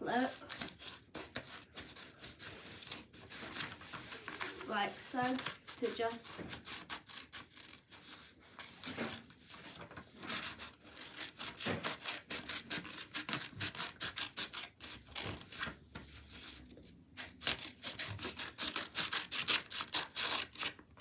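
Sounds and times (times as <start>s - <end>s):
scissors cutting paper: 0.1s - 21.0s.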